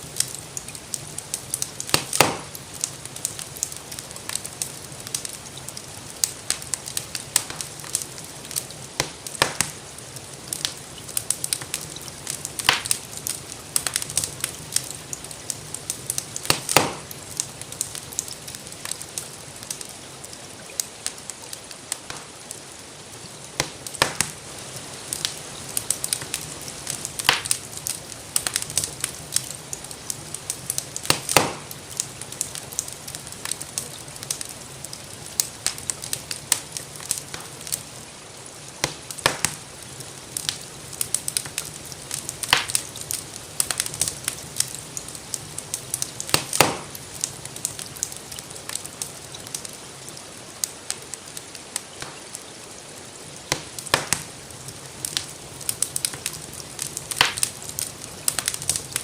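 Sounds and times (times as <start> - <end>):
soft hiss of rain: 0.0 - 59.0
wood fire crackling: 0.0 - 59.0.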